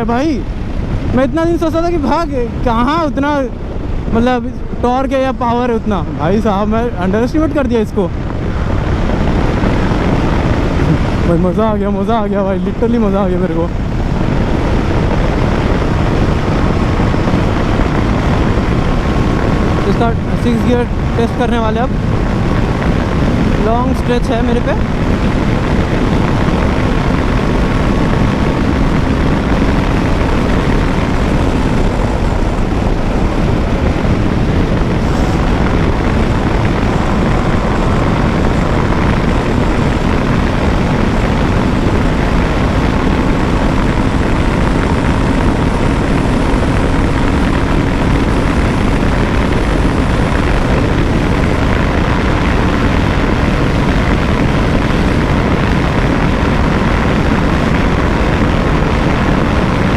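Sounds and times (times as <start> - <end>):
wind rush on microphone: 0.0 - 59.9
motorcycle engine at high revs: 8.2 - 59.9.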